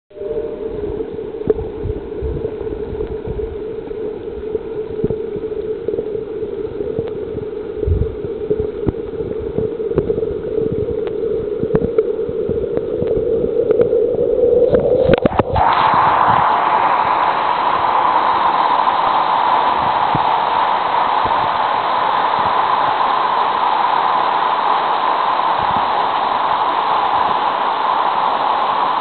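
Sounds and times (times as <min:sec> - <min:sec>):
muffled underwater waterfall rush: 0:00.2 - 0:29.0
falling water hissing: 0:02.4 - 0:29.0.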